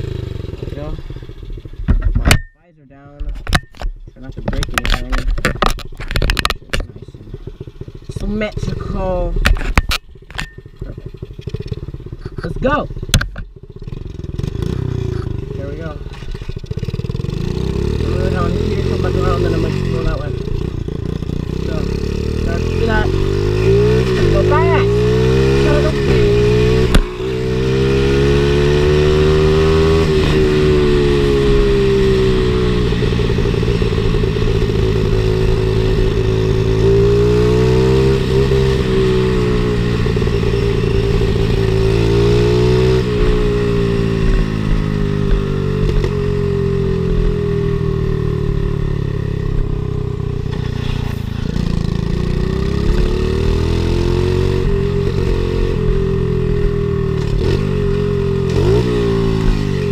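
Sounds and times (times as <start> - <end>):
pit bike engine revving: 0.0 - 2.0, 4.3 - 59.9.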